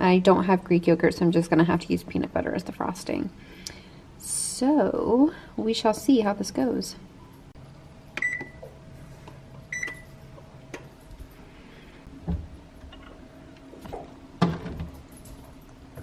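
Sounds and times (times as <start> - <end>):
faint appliance hum: 0.0 - 16.0.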